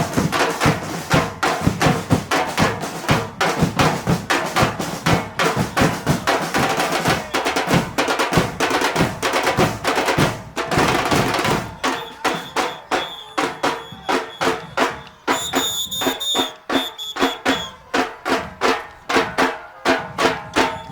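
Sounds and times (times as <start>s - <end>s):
carnival band drumming: 0.0s - 20.9s
sharp percussion strikes: 0.0s - 20.9s.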